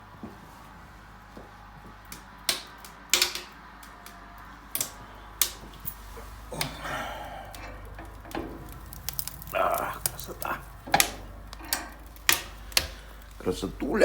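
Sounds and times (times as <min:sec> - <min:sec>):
wood crackling in a stove: 0:00.0 - 0:14.0.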